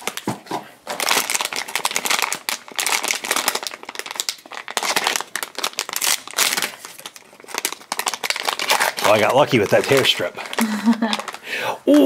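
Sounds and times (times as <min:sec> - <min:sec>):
foil pouch crinkling and tearing: 0:00.9 - 0:11.5.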